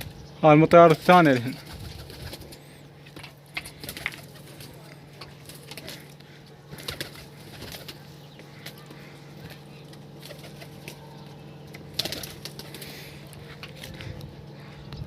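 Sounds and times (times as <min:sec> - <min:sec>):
steady low hum: 0:00.0 - 0:15.0
pigeon wings flapping: 0:00.9 - 0:11.0, 0:11.8 - 0:14.0.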